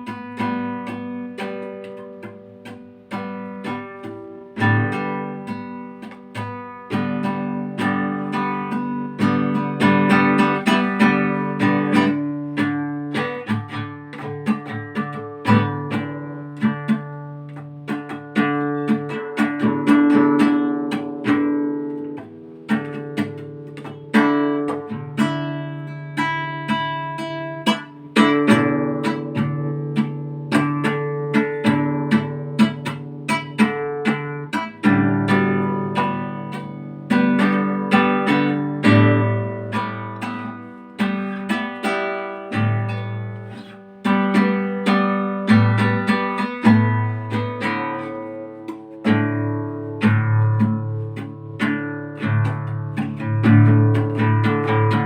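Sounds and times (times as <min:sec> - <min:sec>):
acoustic guitar playing: 0:00.0 - 0:55.0.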